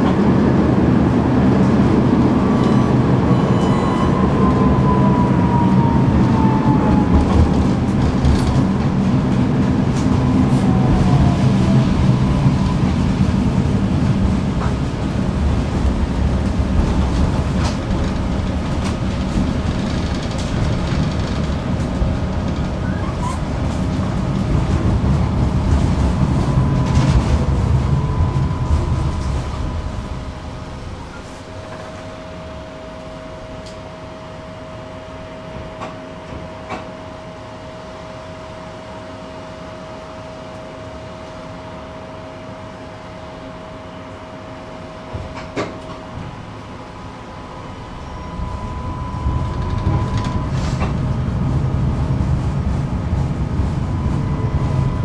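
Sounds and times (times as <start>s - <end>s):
tram hum: 0.0s - 55.0s
tram wheels rumbling on rails: 0.0s - 55.0s
tram whine: 0.0s - 55.0s.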